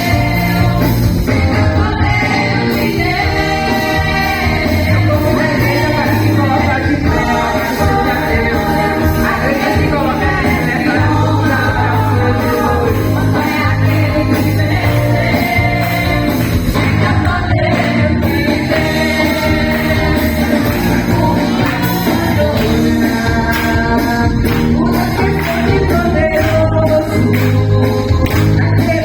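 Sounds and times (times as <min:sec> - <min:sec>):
steady bass line: 0:00.0 - 0:29.0
women's choir singing: 0:00.0 - 0:29.0.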